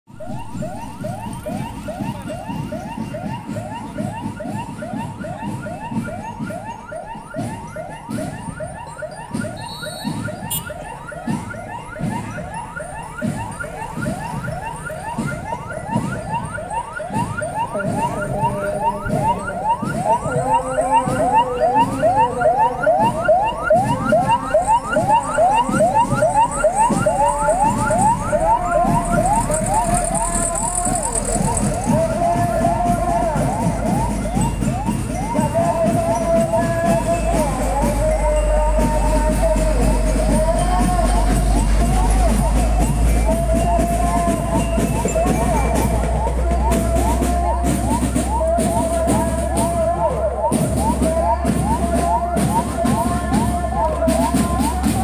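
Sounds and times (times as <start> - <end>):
vehicle siren yelping: 0.1 - 55.0.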